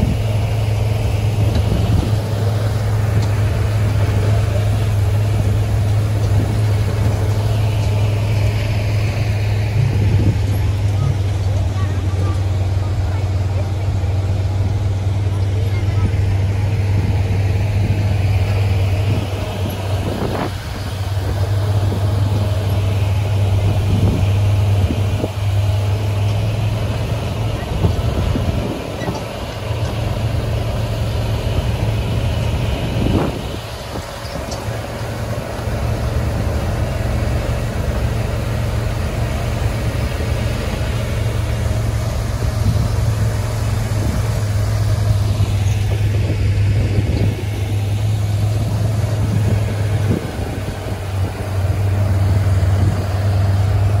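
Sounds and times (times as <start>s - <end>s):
cart engine droning: 0.0s - 54.0s.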